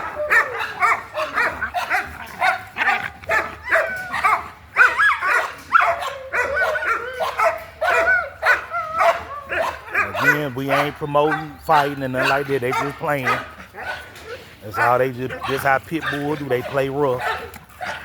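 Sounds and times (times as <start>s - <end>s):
dogs play growling: 0.0s - 18.0s
dogs yipping and barking: 0.0s - 18.0s.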